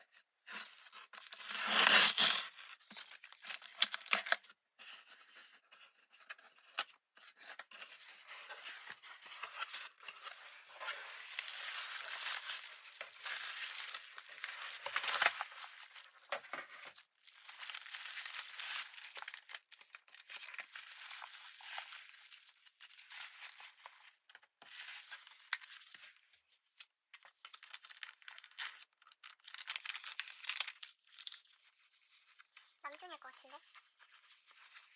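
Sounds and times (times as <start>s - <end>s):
packaging crinkling and tearing: 0.7s - 4.5s, 7.8s - 26.2s, 26.8s - 34.9s.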